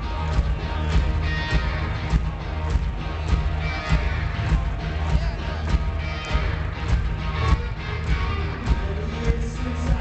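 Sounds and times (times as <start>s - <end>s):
distorted electric guitars: 0.0s - 10.0s
drums: 0.0s - 10.0s.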